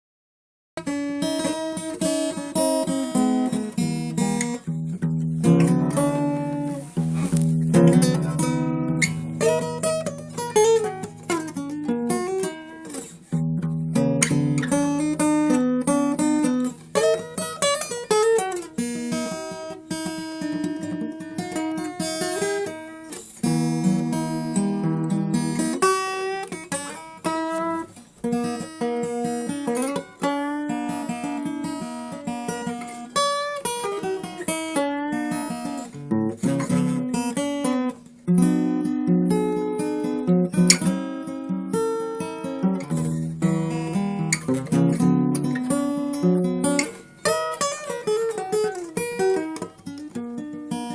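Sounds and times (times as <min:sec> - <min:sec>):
solo acoustic guitar: 0:00.8 - 0:50.9.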